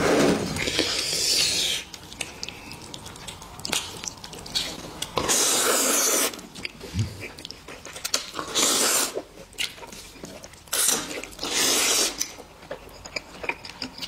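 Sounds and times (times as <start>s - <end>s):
noodles being slurped: 0.0s - 14.0s
chewing and mouth clicks: 0.5s - 14.0s.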